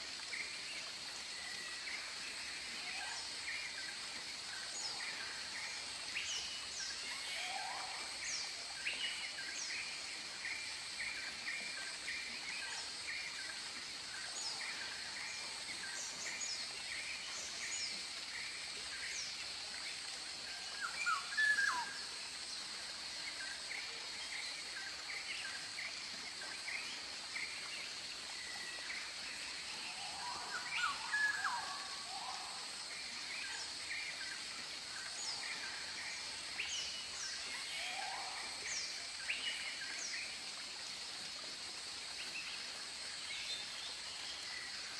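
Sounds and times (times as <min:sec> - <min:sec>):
high insect hum: 0:00.0 - 0:44.9.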